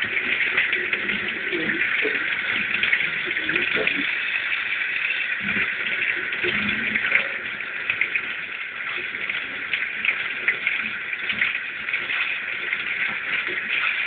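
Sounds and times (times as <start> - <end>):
tap water running into sink: 0.0 - 14.0
water splashing over fish: 0.0 - 14.0.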